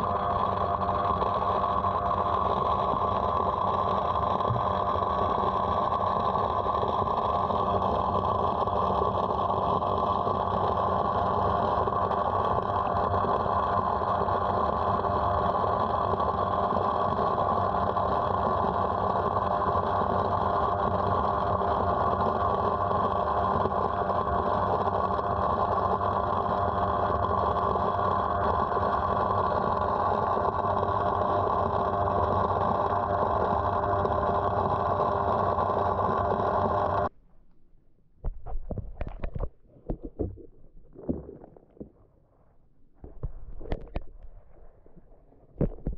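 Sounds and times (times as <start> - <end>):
underwater pump drone: 0.0 - 45.9.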